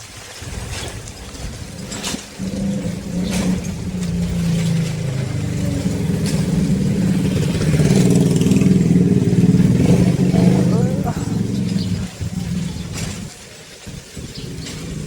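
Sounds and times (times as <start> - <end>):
vehicle engine approaching: 0.7 - 15.0.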